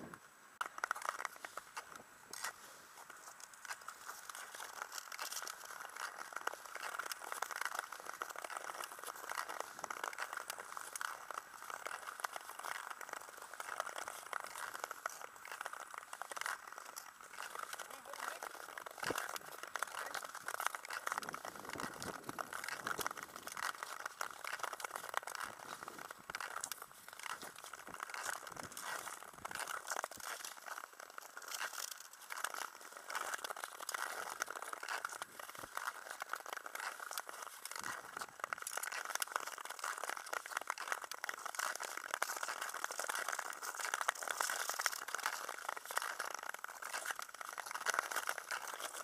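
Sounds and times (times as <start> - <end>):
skate blades scraping ice: 0.6 - 49.0.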